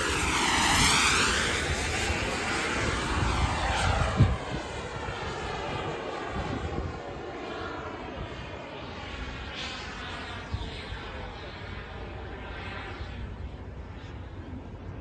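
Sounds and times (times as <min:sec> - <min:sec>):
model jet engine whine: 0:00.0 - 0:15.0.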